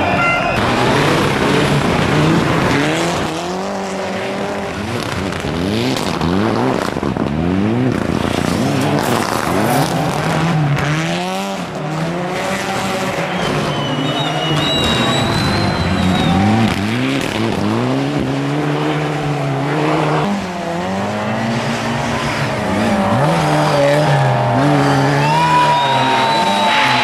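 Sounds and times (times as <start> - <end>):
rally car engines revving hard: 0.0 - 27.0.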